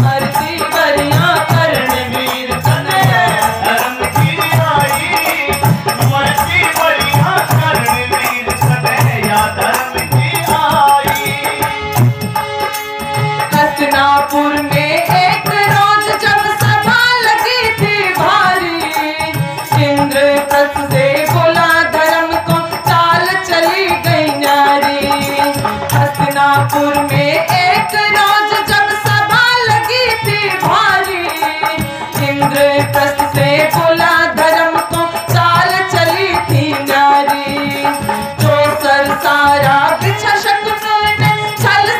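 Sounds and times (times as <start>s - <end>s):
woman singing: 0.0s - 11.8s, 13.4s - 41.9s
man singing: 0.0s - 12.4s, 13.4s - 41.9s
dholak drum rhythm: 0.0s - 41.9s
harmonium: 0.0s - 41.9s.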